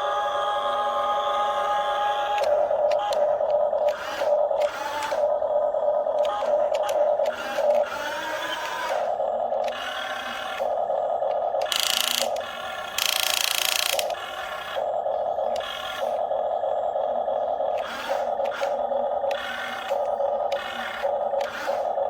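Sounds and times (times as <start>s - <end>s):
small electric motors whining: 0.0s - 5.4s, 6.2s - 16.3s, 17.7s - 22.0s.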